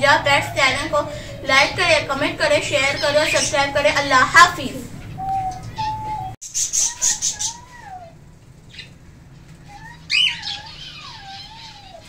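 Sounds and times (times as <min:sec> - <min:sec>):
parrots whistling and calling: 0:00.0 - 0:09.0, 0:09.7 - 0:12.0.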